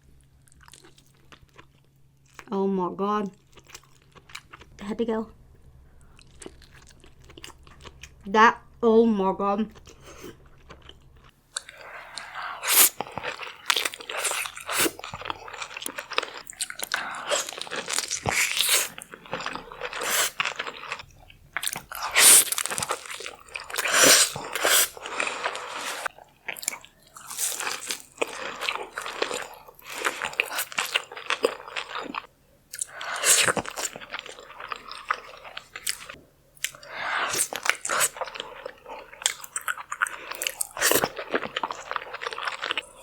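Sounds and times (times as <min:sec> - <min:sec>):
person chewing crunchy food: 0:00.2 - 0:02.5, 0:03.4 - 0:04.8, 0:06.0 - 0:08.2, 0:09.8 - 0:43.0.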